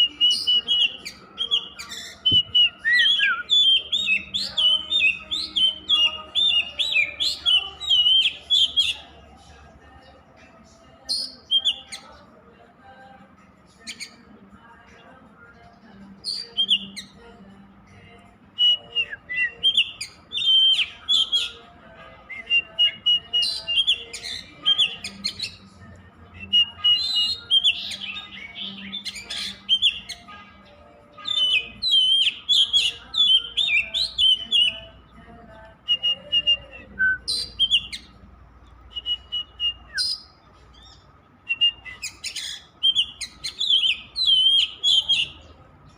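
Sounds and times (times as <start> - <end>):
bird singing whistles and trills: 0.0 - 9.2, 11.1 - 12.2, 16.2 - 17.2, 18.6 - 35.2, 35.8 - 45.6.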